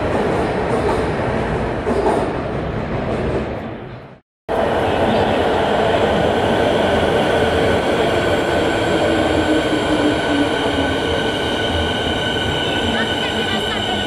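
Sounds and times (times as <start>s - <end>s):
metro train rumbling and whining: 0.0s - 14.0s.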